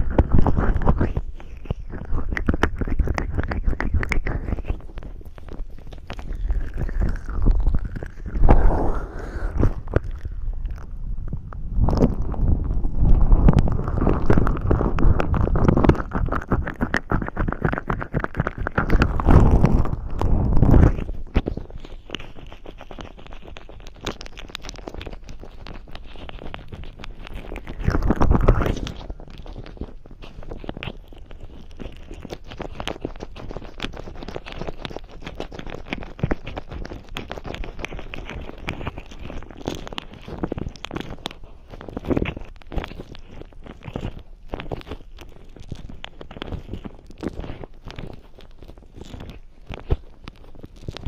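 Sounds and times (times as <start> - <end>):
fingers rubbing cream on microphone: 0.0 - 51.0.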